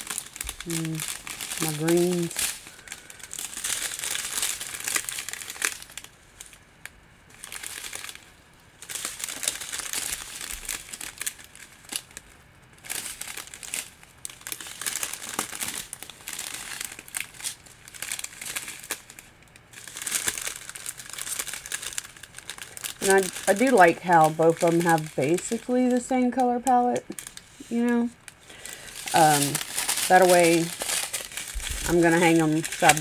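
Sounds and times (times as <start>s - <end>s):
plastic bags crinkling: 0.0s - 33.0s.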